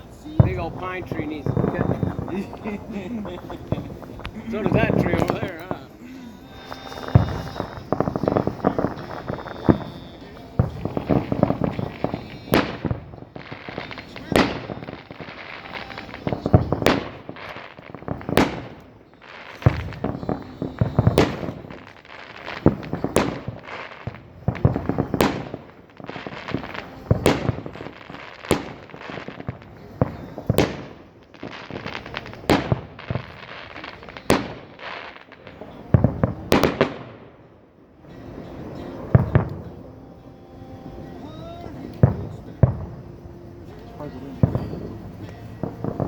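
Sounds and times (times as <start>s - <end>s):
fireworks bangs: 0.0s - 46.0s
fireworks crackling: 0.0s - 46.0s.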